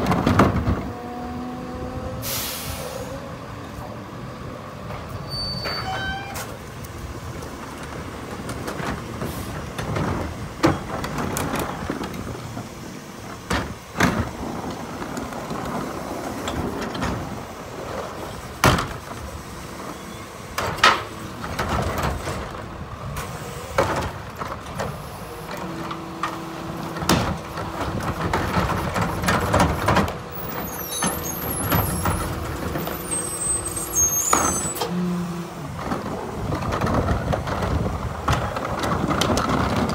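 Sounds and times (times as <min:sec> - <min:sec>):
carts banging against hopper: 0:00.0 - 0:01.2, 0:07.5 - 0:39.9
garbage truck idling: 0:02.2 - 0:39.9.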